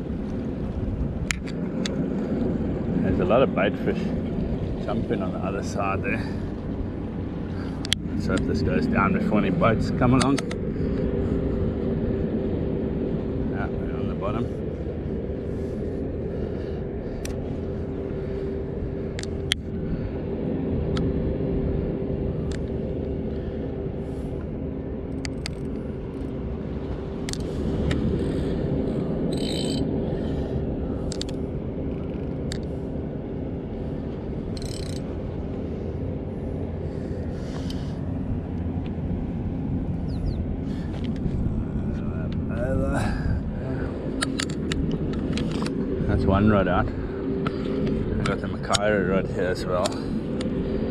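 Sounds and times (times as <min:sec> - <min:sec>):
low mechanical drone: 0:00.0 - 0:50.9.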